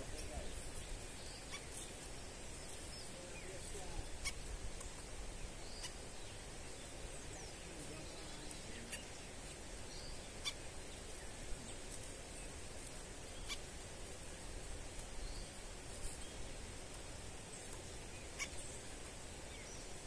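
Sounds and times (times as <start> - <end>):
small birds chirping: 0.0 - 20.0
steady outdoor hiss: 0.0 - 20.0.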